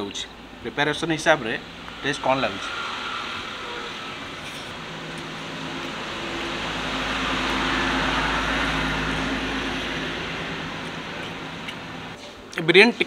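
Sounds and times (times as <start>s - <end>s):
road vehicle passing: 0.3s - 12.2s.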